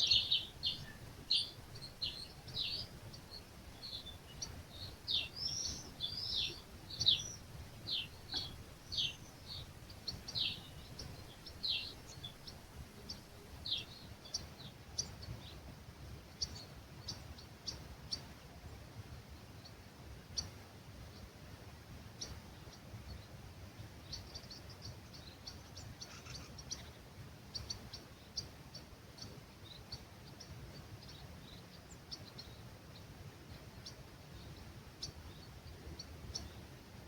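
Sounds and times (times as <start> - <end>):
wild birds chirping: 0.0 - 37.0.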